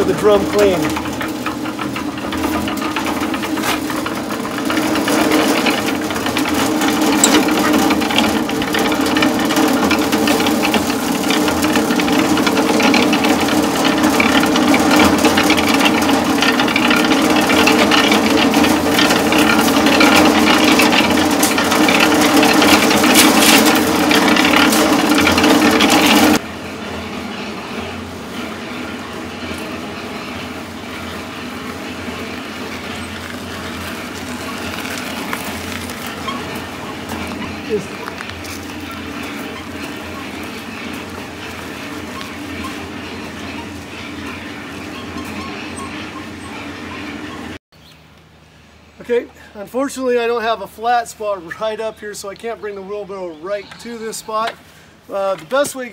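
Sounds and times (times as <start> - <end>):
cement mixer running: 0.0 - 47.6
gravel rattling in mixer drum: 0.0 - 47.6.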